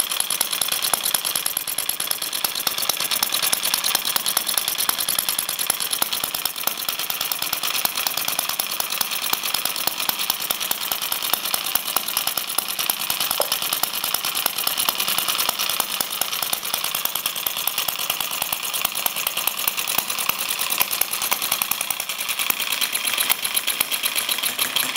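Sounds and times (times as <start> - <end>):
model engine running: 0.0 - 24.9.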